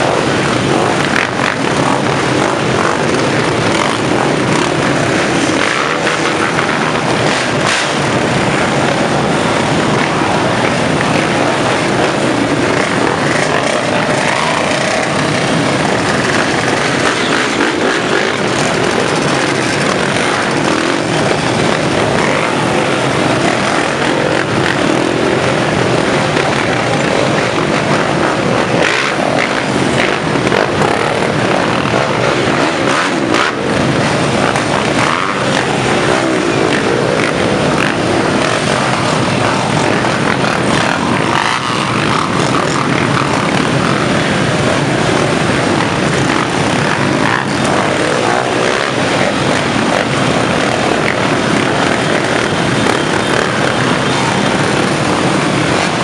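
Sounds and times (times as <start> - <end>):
motorcycle engines droning: 0.0 - 56.0
motorcycles revving: 0.0 - 56.0.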